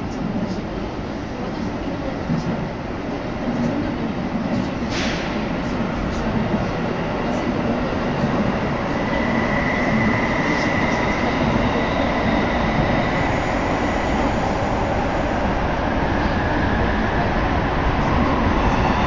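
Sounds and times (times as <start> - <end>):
train rumbling through tunnel: 0.0 - 19.0.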